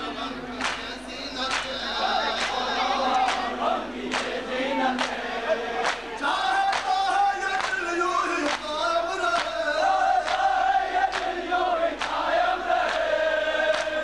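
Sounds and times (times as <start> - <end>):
crowd chanting: 0.0 - 14.0
men singing a lament: 0.0 - 14.0.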